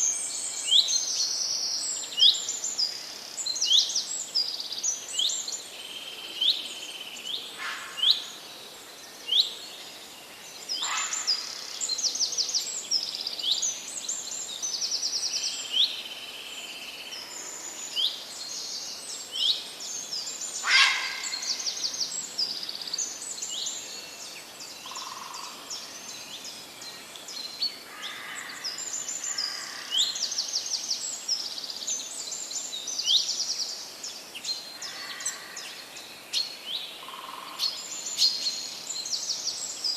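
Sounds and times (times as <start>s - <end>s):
songbirds singing and calling: 0.0s - 39.9s
steady background hiss: 0.0s - 39.9s.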